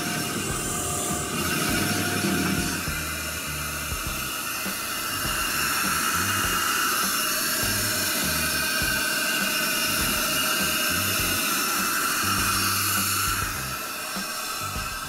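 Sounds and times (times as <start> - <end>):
background music with bass line: 0.0 - 6.8, 7.6 - 9.2, 9.9 - 11.5, 12.2 - 15.0
machine motor whine and hiss: 0.0 - 15.0.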